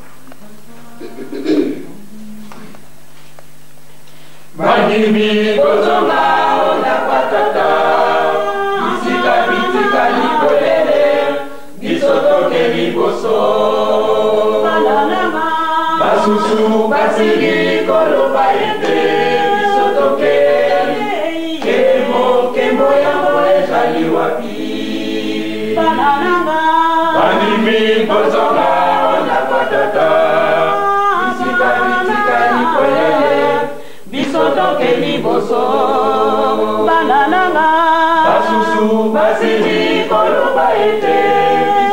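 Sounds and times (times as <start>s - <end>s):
choir singing a cappella: 4.6s - 41.9s.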